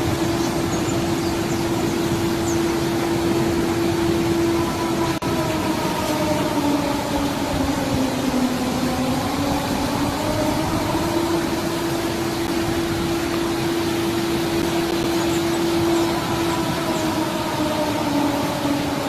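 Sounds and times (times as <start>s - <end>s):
droning alarm tone: 0.0s - 19.0s
noisy hiss: 0.0s - 19.0s.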